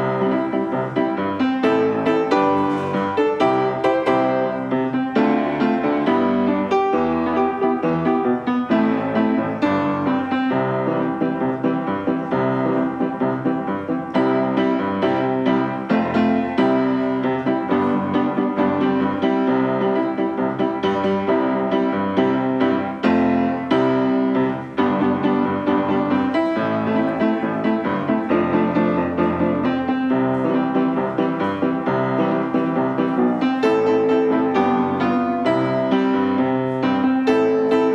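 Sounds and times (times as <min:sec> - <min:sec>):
piano music: 0:00.0 - 0:37.9.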